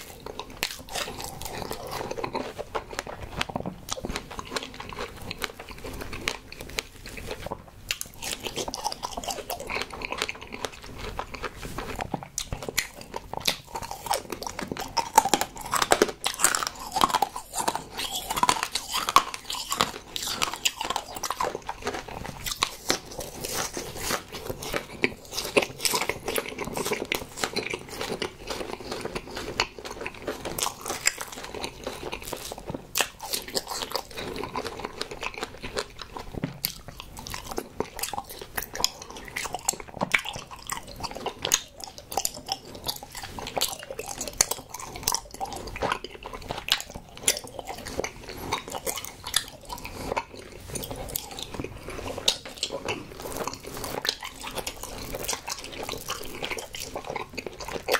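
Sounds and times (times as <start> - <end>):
chewing sweets close up: 0.0 - 57.9.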